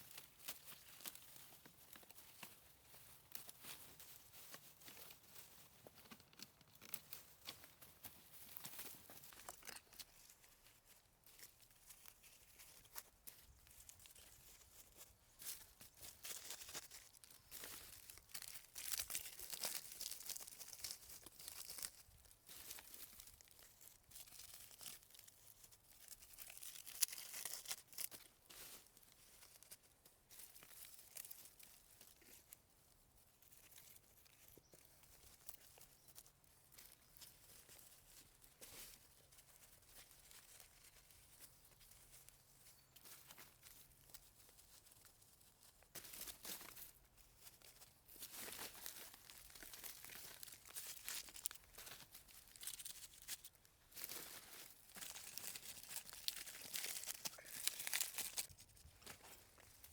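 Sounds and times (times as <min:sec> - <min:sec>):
dry twigs crackling and rustling: 0:00.0 - 0:59.9.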